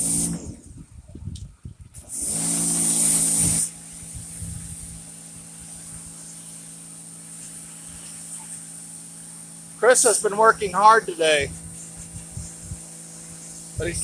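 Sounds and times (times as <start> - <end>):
pressure washer water spraying: 0.0 - 0.7, 1.9 - 14.0
pressure washer machine humming: 2.0 - 14.0.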